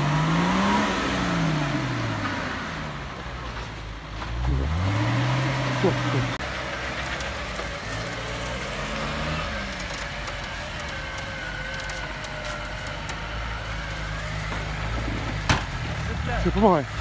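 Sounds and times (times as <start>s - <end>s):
off-road engines idling: 0.0s - 17.0s.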